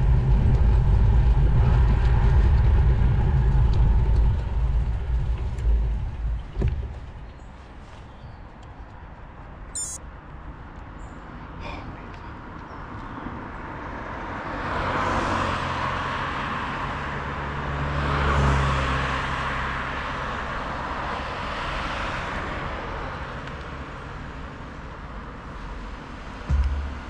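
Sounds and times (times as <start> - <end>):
steady traffic rush: 0.0 - 27.0
vehicles passing: 2.7 - 27.0.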